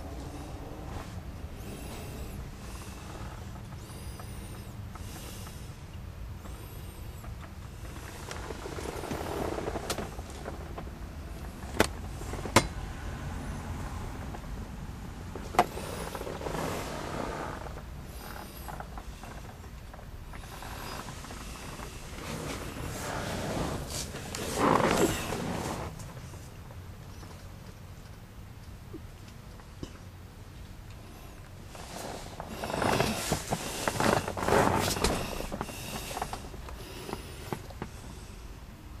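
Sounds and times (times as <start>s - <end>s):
car engine rumble from inside: 0.0s - 39.0s.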